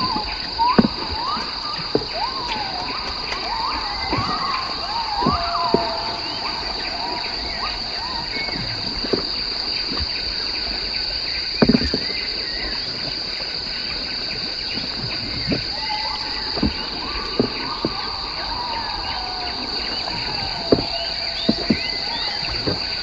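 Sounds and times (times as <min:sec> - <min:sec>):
shrill insect drone: 0:00.0 - 0:23.0
whistling animal calls: 0:00.0 - 0:23.0.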